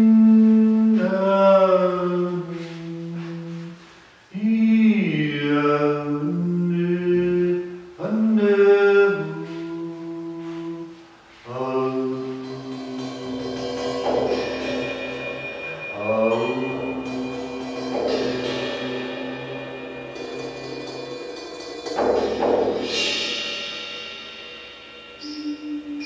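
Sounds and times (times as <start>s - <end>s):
man singing held vowel tones: 0.0s - 21.1s, 25.2s - 26.0s.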